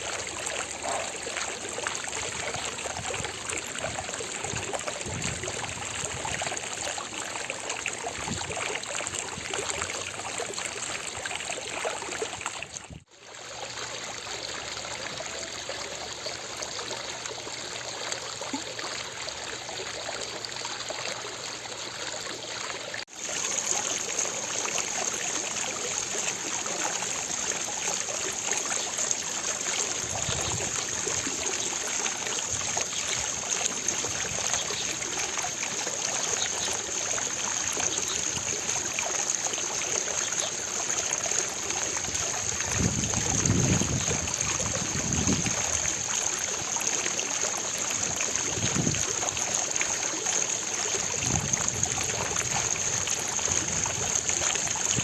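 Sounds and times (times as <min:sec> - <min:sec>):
fountain water splashing into basin: 0:00.0 - 0:55.0.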